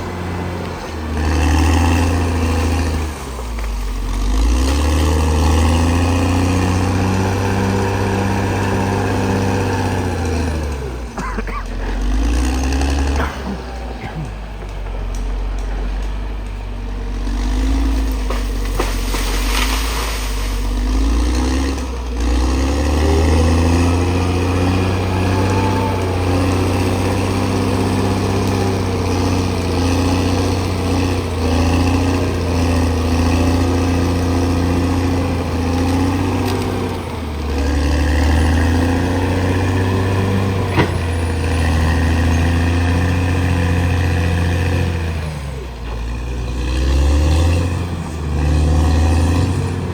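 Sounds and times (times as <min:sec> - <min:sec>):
bulldozer diesel engine under load: 0:00.0 - 0:49.9.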